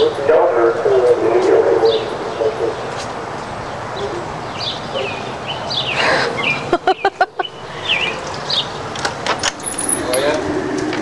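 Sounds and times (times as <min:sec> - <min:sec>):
songbirds chirping: 0:00.0 - 0:10.8
outdoor background noise: 0:00.0 - 0:11.0.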